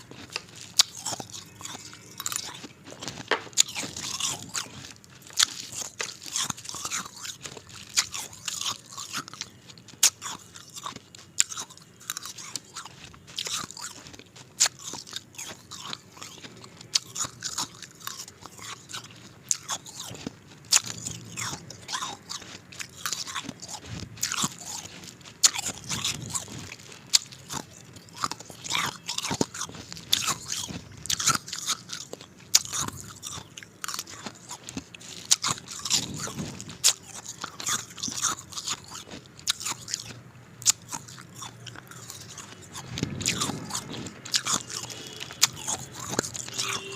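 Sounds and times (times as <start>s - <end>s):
ice crunching between teeth: 0.0s - 46.9s.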